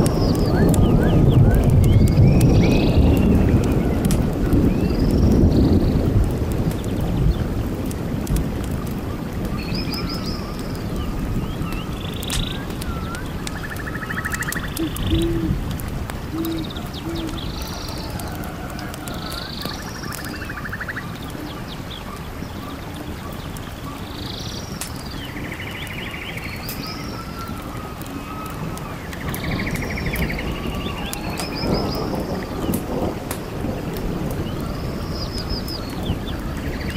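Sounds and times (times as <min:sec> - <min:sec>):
birds chirping and trilling: 0:00.0 - 0:06.1, 0:08.6 - 0:36.9.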